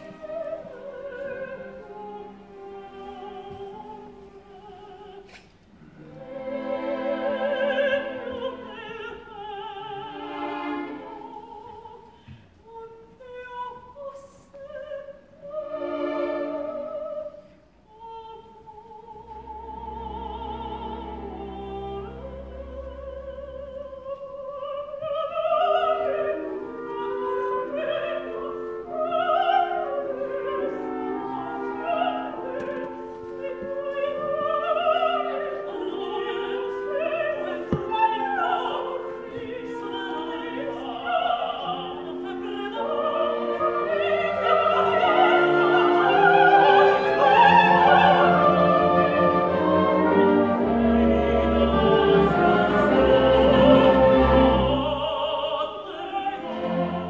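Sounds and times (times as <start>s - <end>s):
orchestral accompaniment: 0.0s - 5.1s, 5.8s - 12.2s, 12.9s - 17.8s, 18.5s - 57.0s
two women singing opera: 0.0s - 57.0s.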